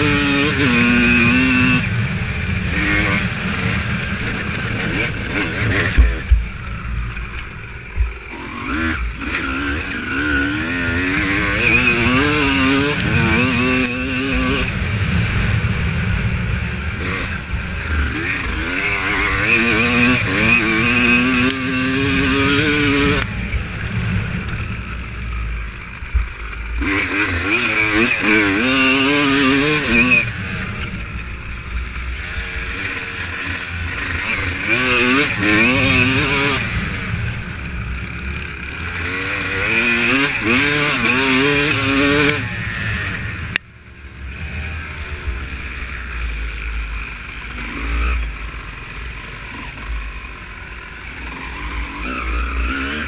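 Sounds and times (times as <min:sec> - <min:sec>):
two-stroke motorbike revving: 0:00.0 - 0:53.0.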